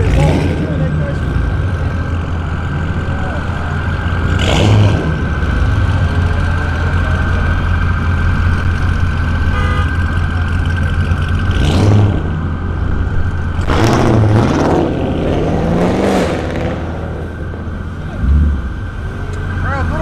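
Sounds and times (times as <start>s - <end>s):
car engine droning: 0.0s - 20.0s.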